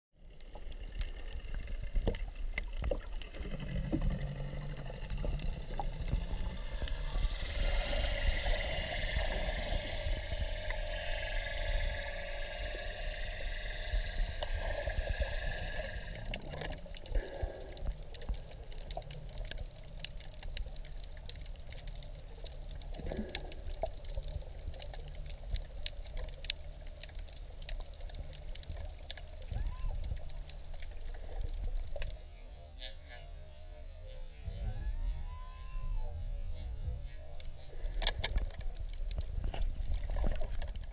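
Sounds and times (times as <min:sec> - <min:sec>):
low muffled underwater rumble: 0:00.2 - 0:40.9.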